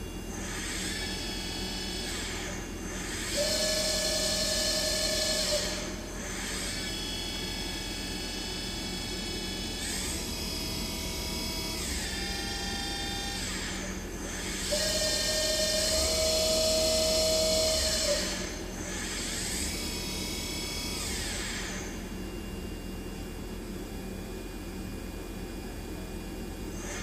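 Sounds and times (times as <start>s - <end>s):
milling machine spindle whine: 0.0s - 27.0s.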